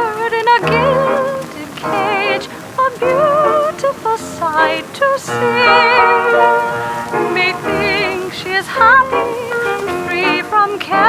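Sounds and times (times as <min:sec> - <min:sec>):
person singing operatically: 0:00.0 - 0:11.0.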